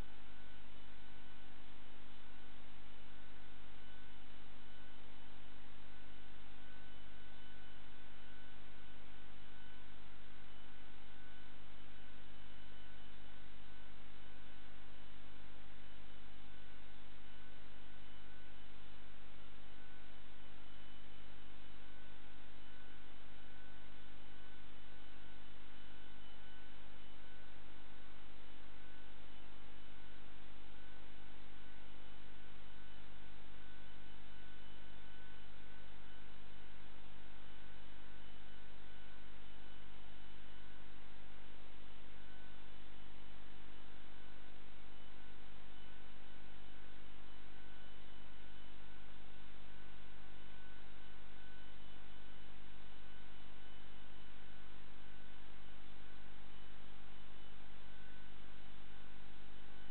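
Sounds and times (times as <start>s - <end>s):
constant hiss: 0.0s - 59.9s.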